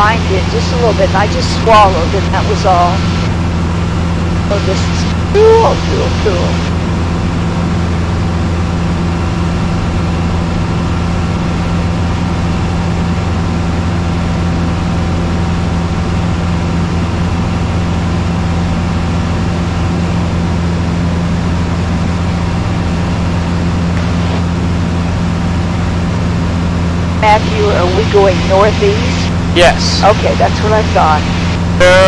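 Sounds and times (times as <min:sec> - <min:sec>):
airplane engine droning in cabin: 0:00.0 - 0:32.0.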